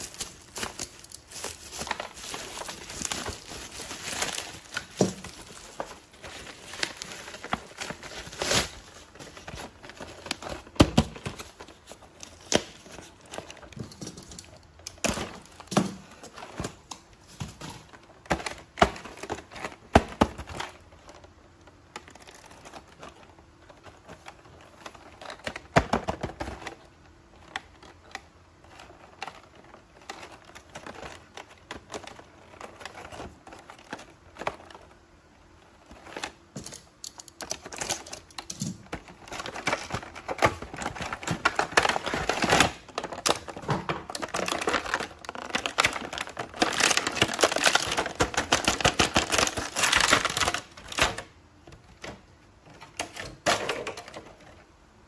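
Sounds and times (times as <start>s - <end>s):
plastic packaging crinkling: 0.0s - 51.4s.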